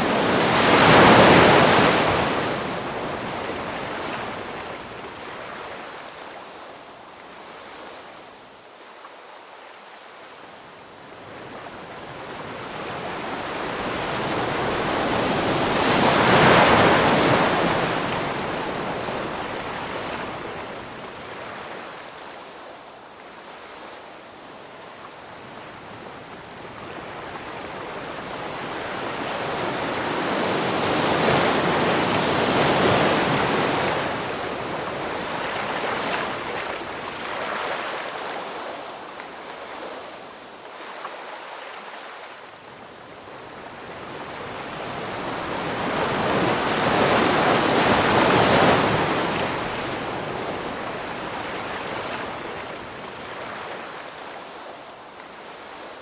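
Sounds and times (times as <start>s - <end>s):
ocean waves breaking on shore: 0.0s - 8.3s, 10.8s - 56.0s.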